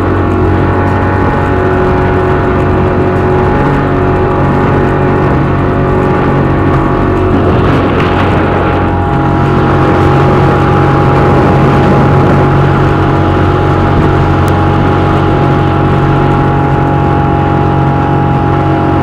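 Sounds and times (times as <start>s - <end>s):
engine running steadily: 0.0s - 19.0s
rush of wind or water: 0.0s - 19.0s.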